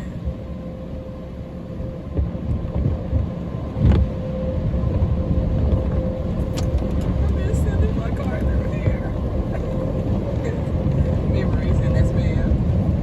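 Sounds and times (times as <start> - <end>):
car cabin rumble: 0.0 - 13.0
steady hum: 0.0 - 13.0.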